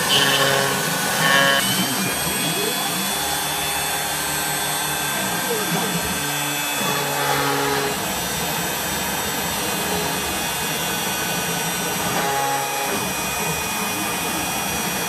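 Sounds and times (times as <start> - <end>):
router motor whining: 0.0 - 15.0.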